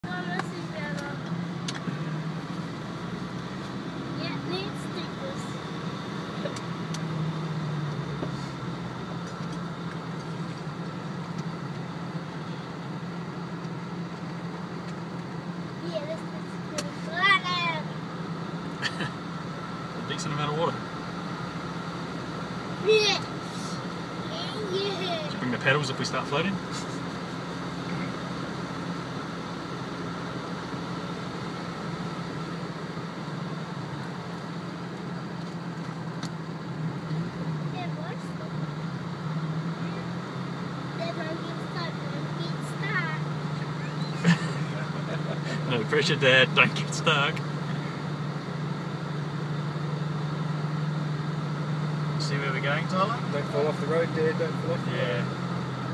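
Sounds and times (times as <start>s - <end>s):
car engine running in cabin: 0.0s - 55.9s.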